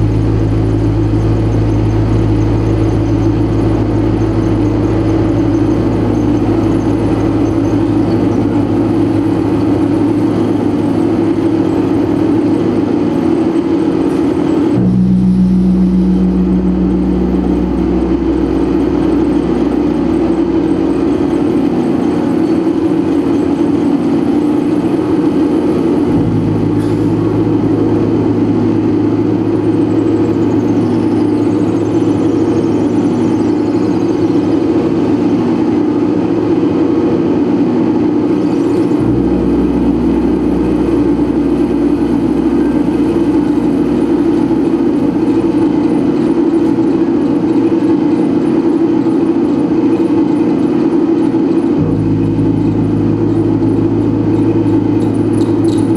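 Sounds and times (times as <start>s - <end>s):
deep bass tones: 0.0s - 55.9s
droning noise music: 0.0s - 55.9s.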